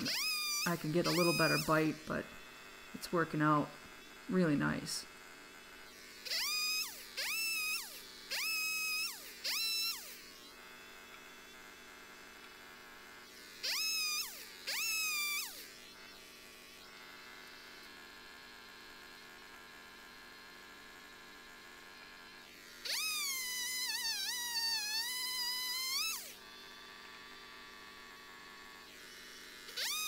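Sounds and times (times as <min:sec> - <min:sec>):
chainsaw cutting log: 0:00.0 - 0:26.4, 0:28.7 - 0:30.0.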